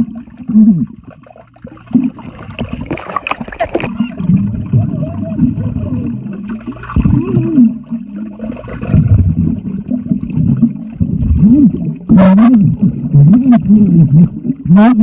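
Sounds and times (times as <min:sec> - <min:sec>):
people's voices underwater: 0:00.0 - 0:15.0
underwater gurgling and bubbling: 0:00.0 - 0:15.0.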